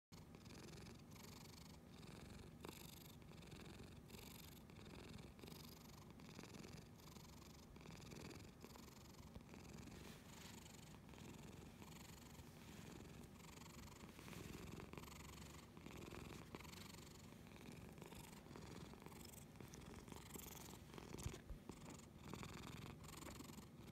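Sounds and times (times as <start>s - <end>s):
cat purring: 0.2s - 23.9s.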